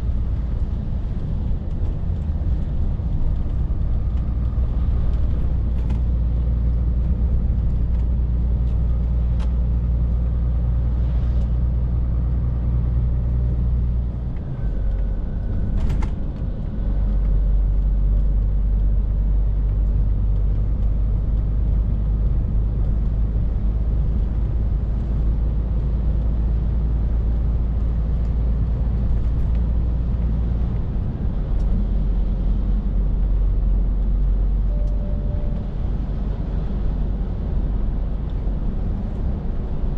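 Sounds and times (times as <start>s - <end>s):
lorry diesel engine drone: 0.0s - 39.9s.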